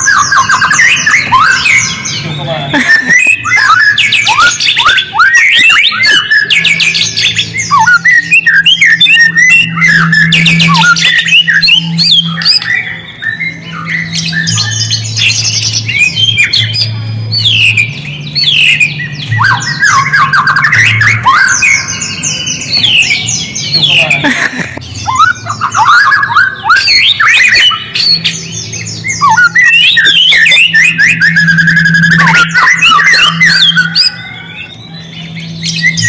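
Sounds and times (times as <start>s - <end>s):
bird singing loudly: 0.0s - 24.3s, 24.9s - 36.0s.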